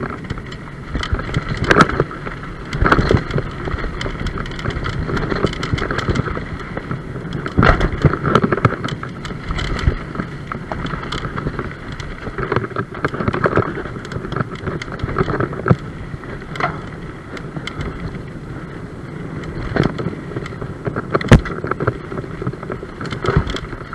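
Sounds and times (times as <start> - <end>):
bike rattling over bumps: 0.0 - 23.9
wind and tyre noise: 0.0 - 23.9.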